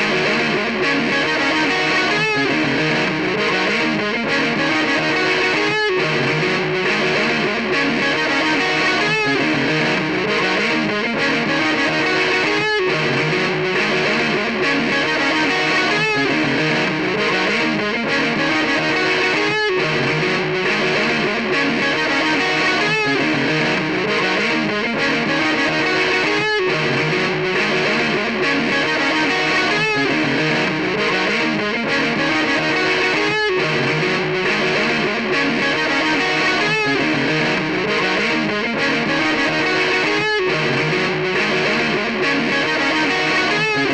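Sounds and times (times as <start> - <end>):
distorted electric guitar riff: 0.0 - 43.9.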